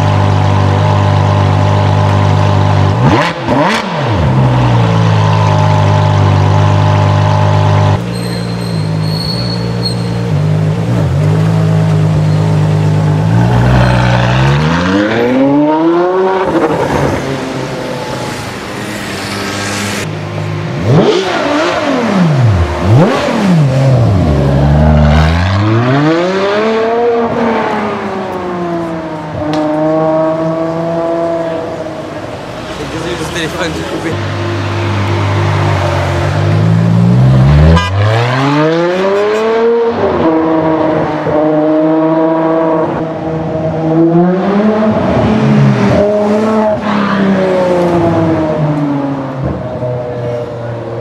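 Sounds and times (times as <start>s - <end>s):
car engine revving: 0.0s - 8.1s, 10.2s - 51.0s.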